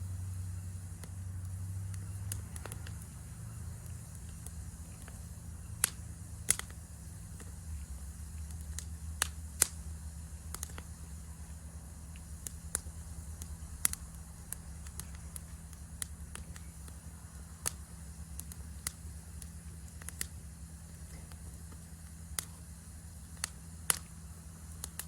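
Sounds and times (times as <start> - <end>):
campfire crackling and popping: 0.1 - 25.0.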